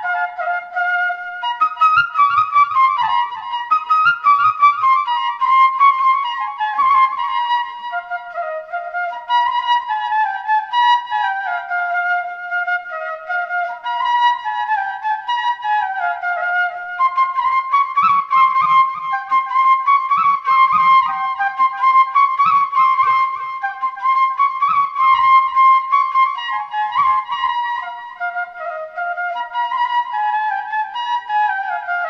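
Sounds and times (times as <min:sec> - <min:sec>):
solo flute-like melody: 0:00.0 - 0:32.0.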